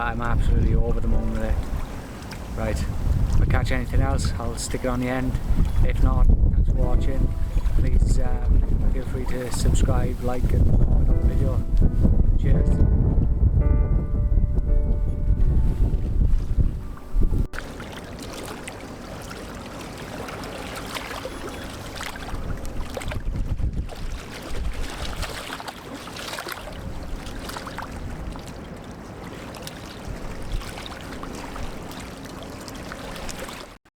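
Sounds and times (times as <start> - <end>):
water lapping at dock: 0.0 - 12.2, 15.6 - 33.9
wind buffeting microphone: 0.0 - 25.6, 26.3 - 32.1.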